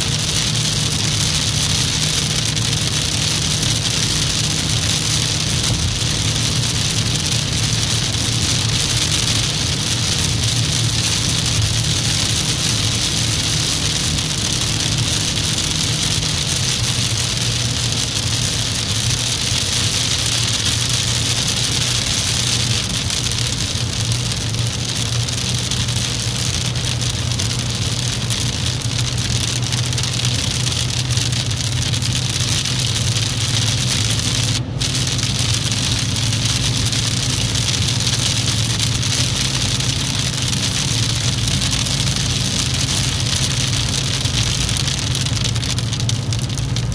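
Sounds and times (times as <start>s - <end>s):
low engine hum: 0.0s - 46.9s
rain on windscreen: 0.0s - 46.9s
tyres hissing on wet road: 0.0s - 46.9s.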